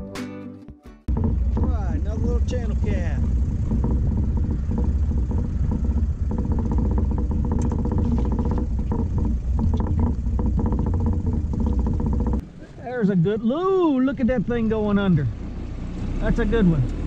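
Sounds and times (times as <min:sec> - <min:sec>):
outboard motor running: 0:01.1 - 0:17.0.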